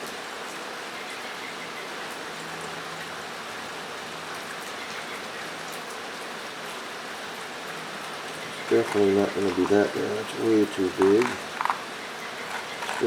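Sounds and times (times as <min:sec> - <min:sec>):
rain on a metal roof: 0:00.0 - 0:13.0.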